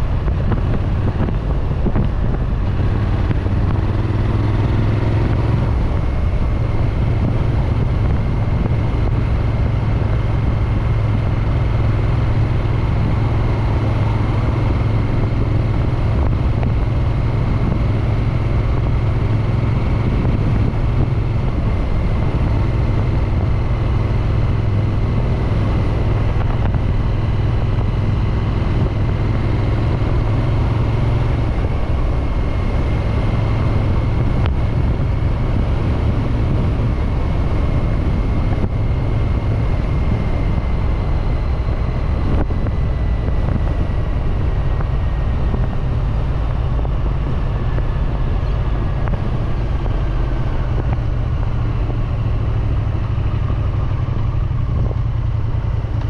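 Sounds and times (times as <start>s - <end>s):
motorcycle engine and exhaust running: 0.0s - 56.0s.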